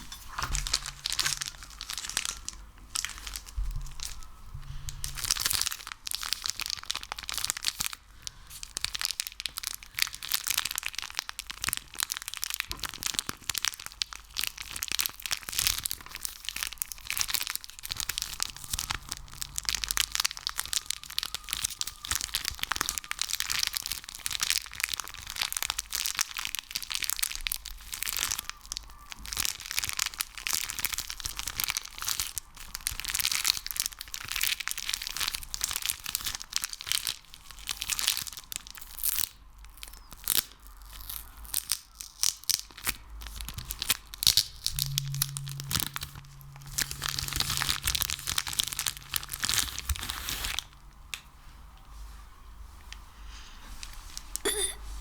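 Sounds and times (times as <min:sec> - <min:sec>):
sticky material crackling and popping: 0:00.0 - 0:51.3.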